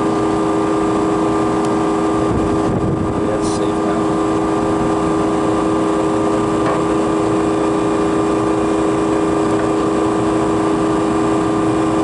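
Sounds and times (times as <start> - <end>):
refrigeration unit humming: 0.0 - 12.0.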